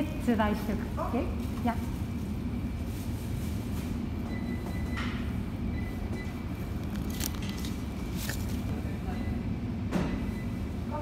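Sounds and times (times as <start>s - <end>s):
low rumble of shop background: 0.0s - 11.0s.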